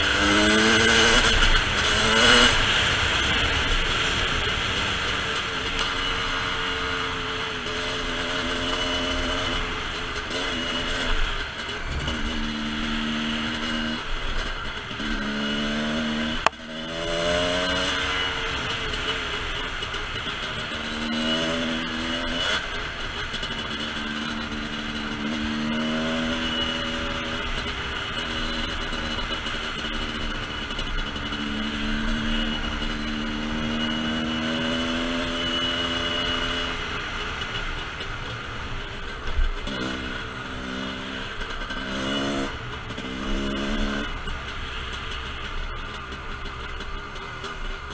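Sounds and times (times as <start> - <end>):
dirt bike engine accelerating: 0.0 - 47.9.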